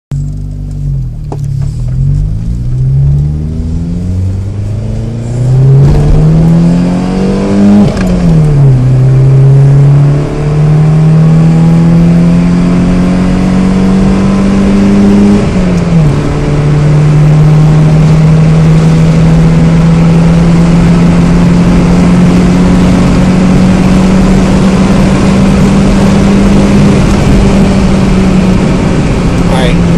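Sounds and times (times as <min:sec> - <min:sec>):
car engine accelerating hard: 0:00.2 - 0:29.9.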